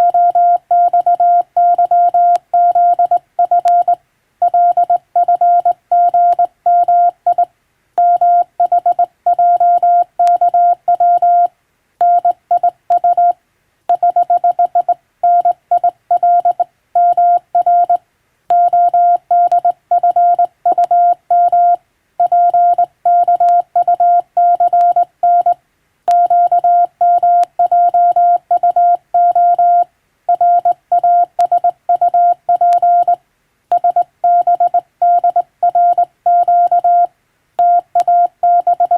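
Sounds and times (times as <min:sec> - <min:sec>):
morse code beeping tone: 0:00.0 - 0:38.9.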